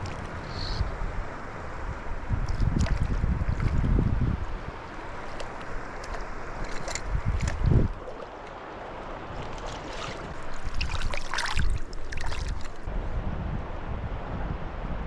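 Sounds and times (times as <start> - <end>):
water splashing: 0.0 - 12.9
flowing river water: 0.0 - 13.0
wind buffeting microphone: 0.0 - 15.0.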